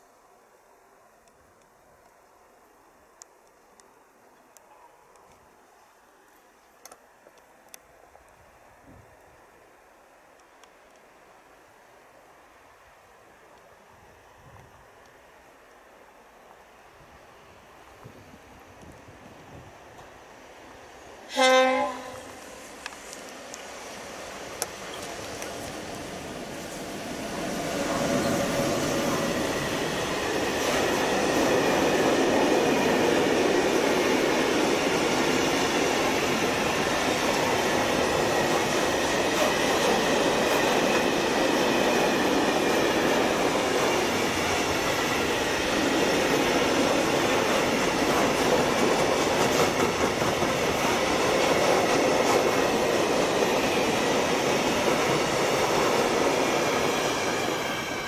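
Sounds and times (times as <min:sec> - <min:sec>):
electric locomotive passing: 0:07.6 - 0:58.0.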